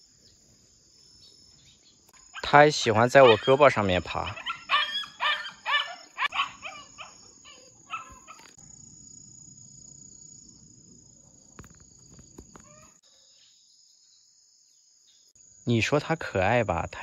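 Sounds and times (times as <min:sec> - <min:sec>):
cricket trill: 0:00.0 - 0:17.0.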